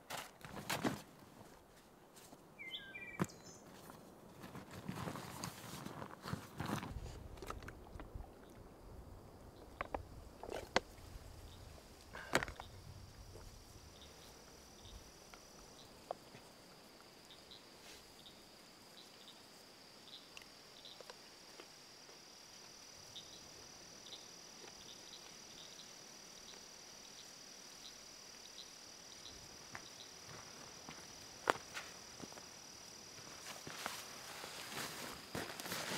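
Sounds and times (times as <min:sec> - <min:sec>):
crickets trilling: 0:04.5 - 0:35.9.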